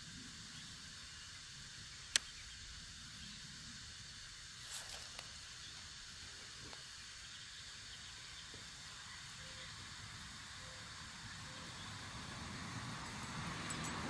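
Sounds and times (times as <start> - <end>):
steady faint hiss: 0.0 - 14.0.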